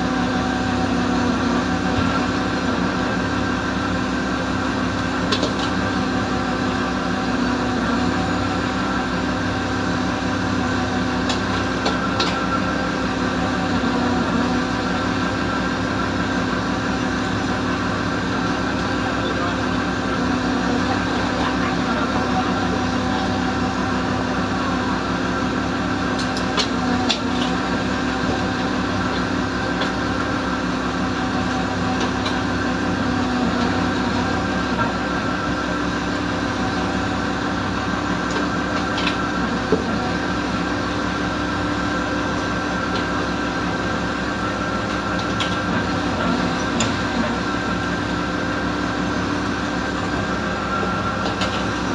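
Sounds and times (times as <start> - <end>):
boat engine and rope hauler drone: 0.0 - 51.9.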